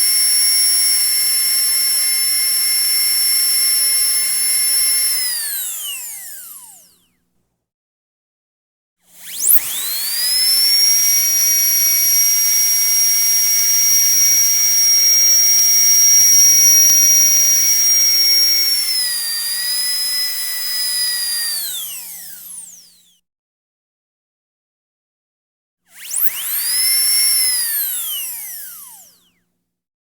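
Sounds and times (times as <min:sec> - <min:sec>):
dentist's drill whine: 0:00.0 - 0:07.0, 0:09.2 - 0:23.1, 0:26.0 - 0:29.3.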